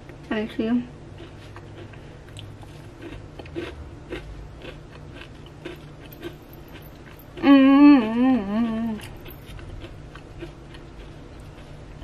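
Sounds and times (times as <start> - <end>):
person chewing crunchy cookie: 1.1 - 12.0.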